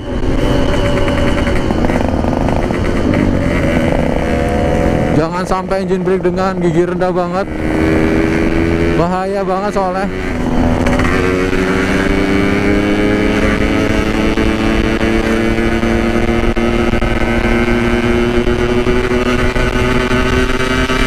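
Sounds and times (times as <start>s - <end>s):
two-stroke motorcycle engine: 0.0s - 21.0s.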